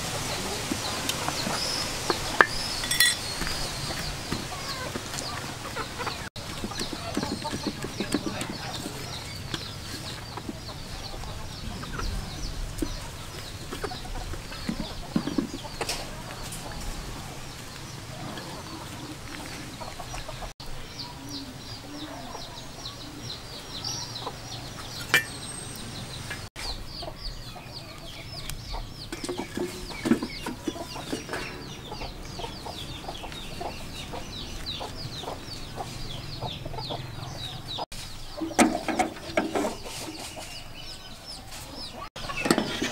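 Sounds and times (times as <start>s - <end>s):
chickens clucking and cheeping: 0.0s - 42.9s.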